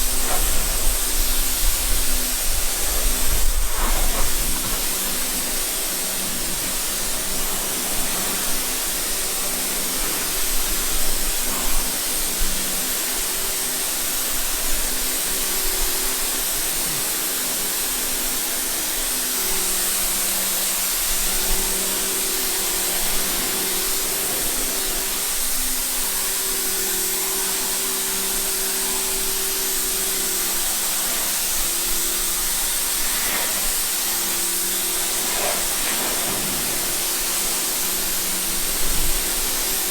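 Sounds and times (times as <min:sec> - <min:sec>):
motor humming: 0:00.0 - 0:39.9
pressure washer spraying water: 0:00.0 - 0:39.9.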